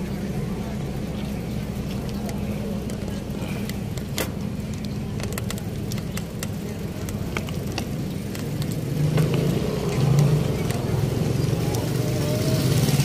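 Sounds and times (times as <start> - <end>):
motorcycle tricycle engine: 0.0 - 13.0
vehicle engines running: 0.0 - 13.0.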